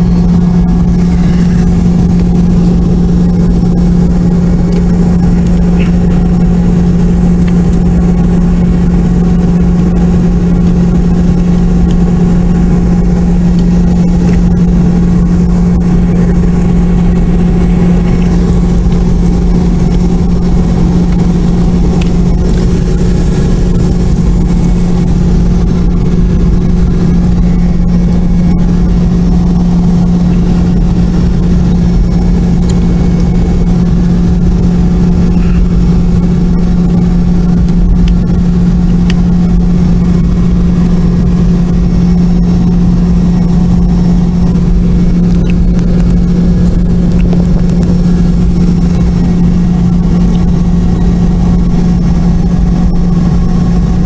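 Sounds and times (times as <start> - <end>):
jet engines droning in cabin: 0.0 - 54.0.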